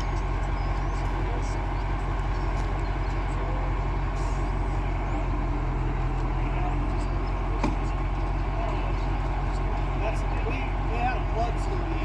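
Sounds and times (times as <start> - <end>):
heavy machine engine humming: 0.0 - 12.0.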